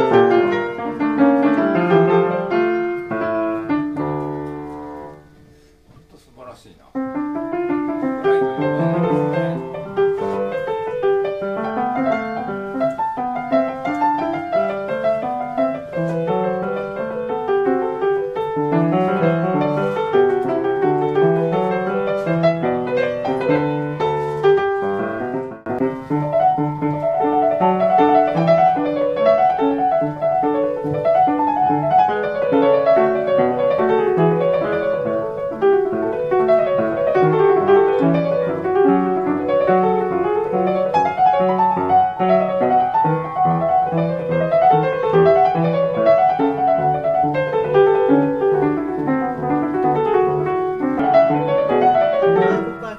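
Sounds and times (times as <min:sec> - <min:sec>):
upright piano playing chords: 0:00.0 - 0:52.9.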